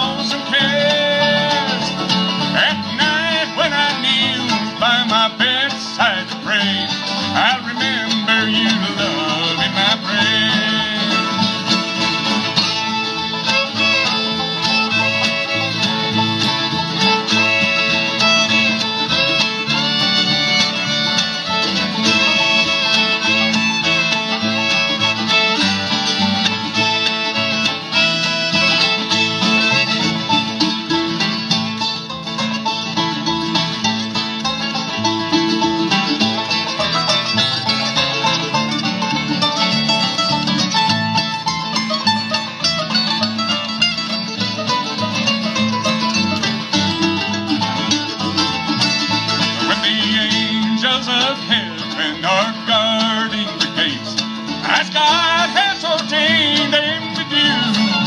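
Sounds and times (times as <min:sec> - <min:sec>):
banjo: 0:00.0 - 0:58.0
fiddle: 0:00.0 - 0:58.0
guitar: 0:00.0 - 0:58.0.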